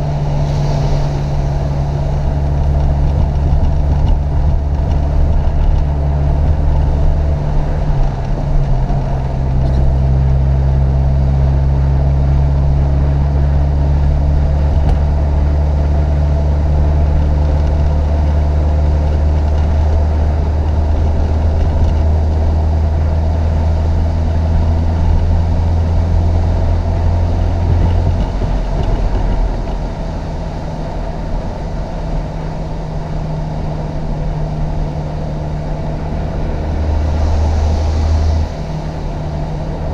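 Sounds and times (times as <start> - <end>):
car engine pulling under load: 0.0 - 39.9.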